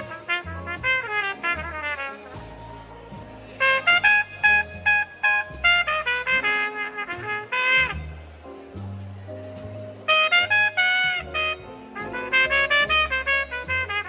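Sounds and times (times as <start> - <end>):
bass line: 0.0 - 14.0
muted trumpet playing jazz: 0.0 - 14.0.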